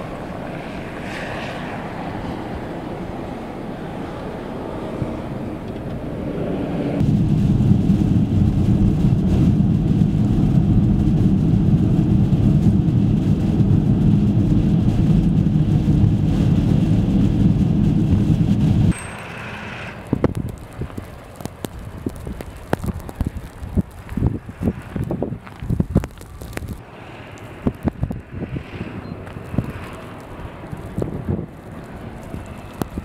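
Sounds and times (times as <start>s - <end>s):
blizzard wind buffeting microphone: 0.0s - 33.0s.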